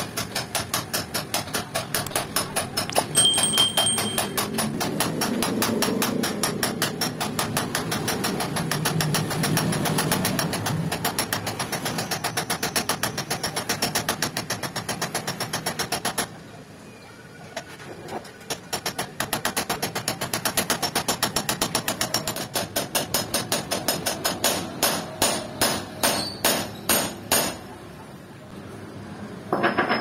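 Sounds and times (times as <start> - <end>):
hammer beating metal: 0.0 - 16.2, 18.7 - 27.6.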